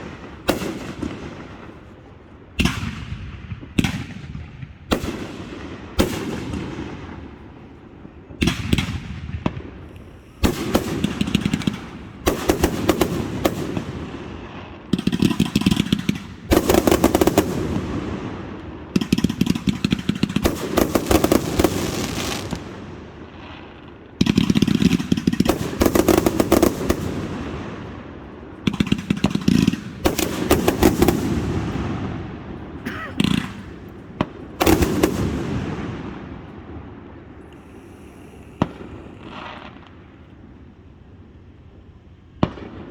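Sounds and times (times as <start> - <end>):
fireworks bursting with bangs: 0.0 - 42.9
fireworks crackling: 0.0 - 42.9.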